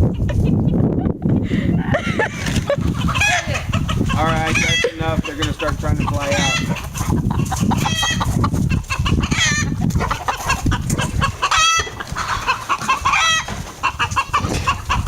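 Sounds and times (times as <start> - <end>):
chickens clucking and squawking: 0.0 - 15.0.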